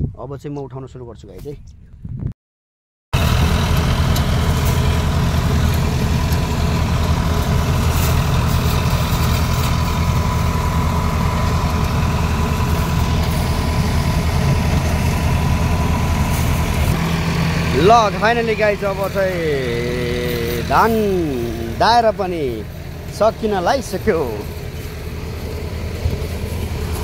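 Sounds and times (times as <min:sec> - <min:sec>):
thresher engine drone: 0:03.2 - 0:27.0
threshing drum whirring: 0:03.2 - 0:27.0.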